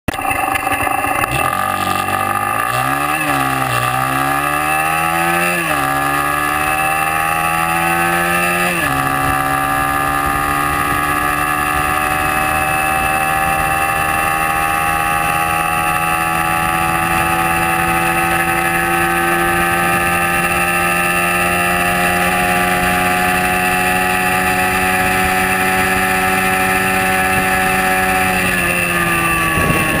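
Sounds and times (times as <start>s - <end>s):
motorcycle engine accelerating: 0.1s - 30.0s.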